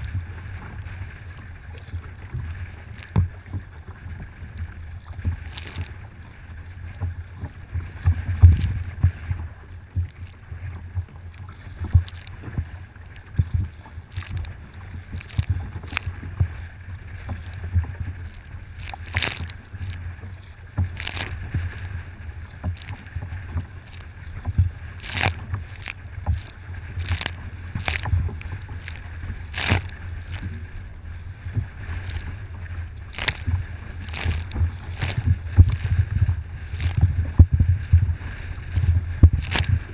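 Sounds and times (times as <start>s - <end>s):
waves slapping against kayak: 0.0s - 39.9s
wind rumble on microphone: 0.0s - 39.9s.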